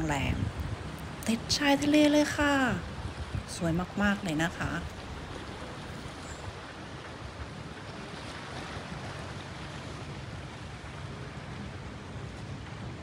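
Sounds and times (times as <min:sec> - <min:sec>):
wind blowing on microphone: 0:00.0 - 0:13.0.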